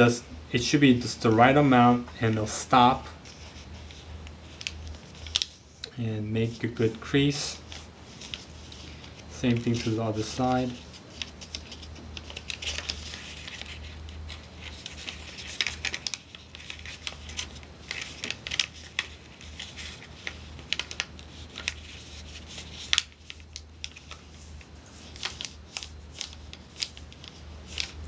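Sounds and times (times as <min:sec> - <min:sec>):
paper rustling and creasing: 0:00.9 - 0:28.0.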